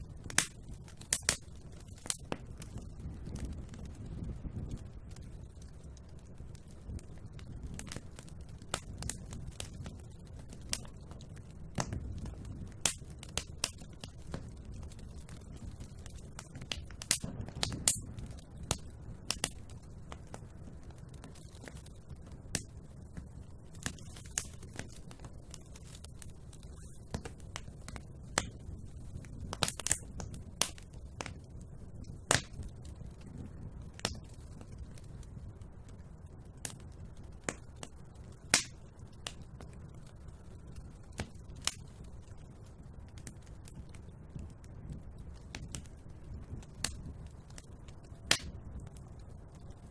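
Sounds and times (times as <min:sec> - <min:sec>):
low rumble of flames: 0:00.0 - 0:49.9
wood fire crackling and popping: 0:00.0 - 0:49.9.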